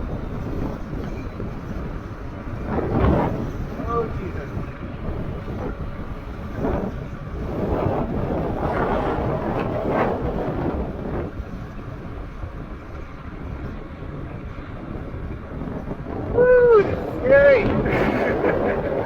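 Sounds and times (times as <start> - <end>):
low rumble: 0.0 - 19.0
wind buffeting microphone: 0.0 - 19.0.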